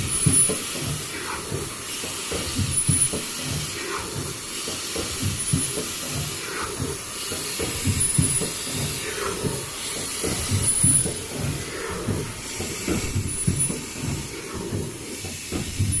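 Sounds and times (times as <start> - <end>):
machine rollers and conveyor clattering: 0.0 - 16.0
steady hiss: 0.0 - 16.0.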